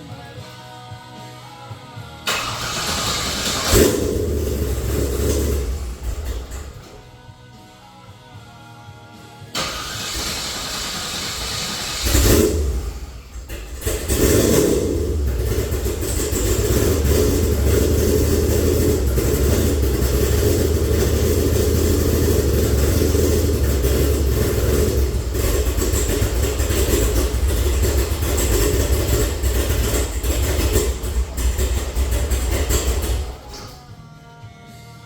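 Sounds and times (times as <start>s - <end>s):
car engine idling: 2.3s - 7.2s, 9.6s - 33.9s.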